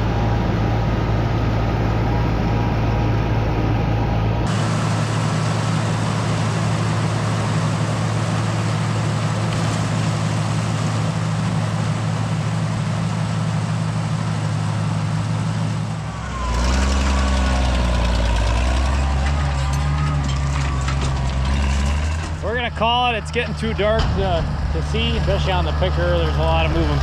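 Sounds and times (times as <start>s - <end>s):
tractor engine running: 0.0s - 27.0s
corn picker machinery running: 4.5s - 27.0s.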